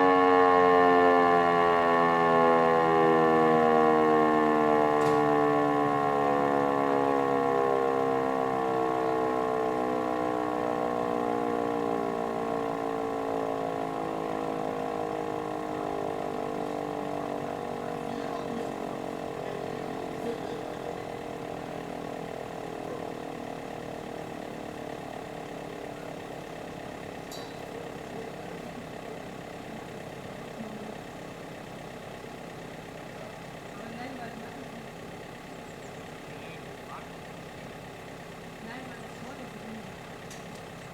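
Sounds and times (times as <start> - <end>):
fire alarm siren spinning down: 0.0 - 35.4.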